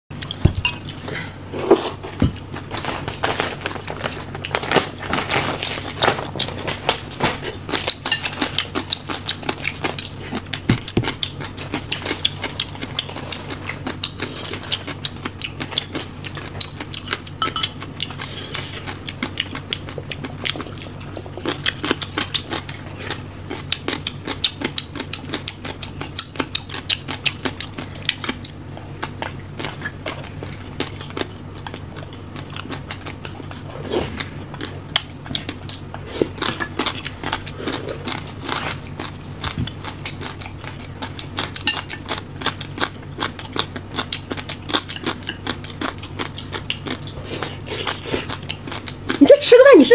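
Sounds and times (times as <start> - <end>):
low steady hum: 0.1 - 49.9
open-mouthed chewing and lip smacking: 0.2 - 2.7, 6.2 - 49.3.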